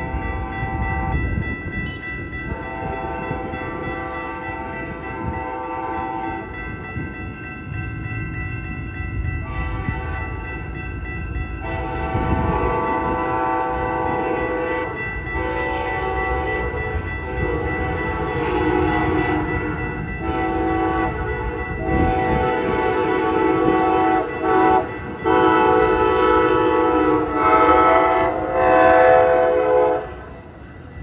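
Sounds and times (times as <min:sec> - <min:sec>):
diesel locomotive rumbling: 0:00.0 - 0:31.0.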